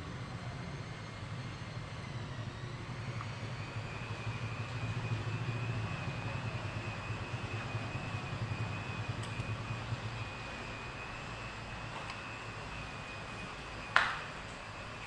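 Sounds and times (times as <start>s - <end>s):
high-pitched whine: 0.0s - 15.0s
low machine hum: 0.0s - 15.0s.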